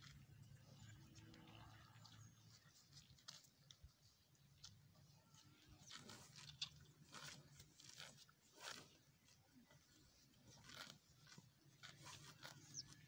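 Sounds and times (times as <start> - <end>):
cattle tearing and chewing grass: 0.0 - 13.0.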